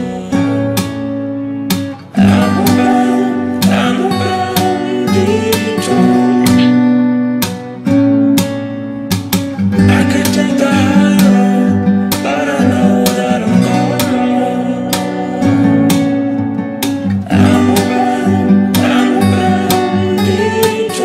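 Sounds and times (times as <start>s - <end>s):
guitar chords strummed: 0.0s - 21.0s.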